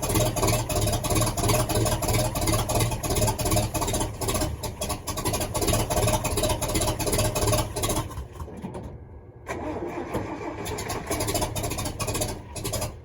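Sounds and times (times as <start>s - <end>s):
truck engine cranking: 0.0s - 13.0s.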